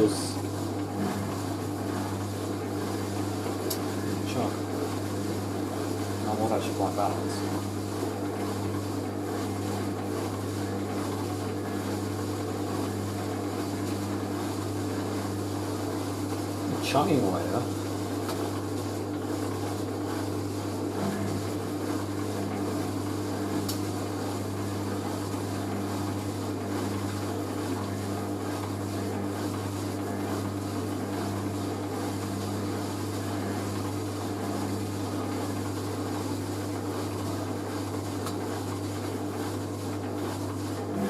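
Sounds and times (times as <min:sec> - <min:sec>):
washing machine spinning: 0:00.0 - 0:41.0.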